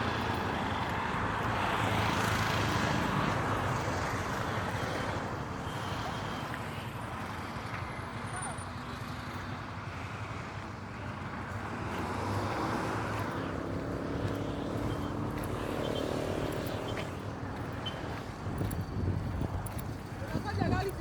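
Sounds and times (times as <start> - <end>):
vehicle passing on road: 0.0 - 21.0.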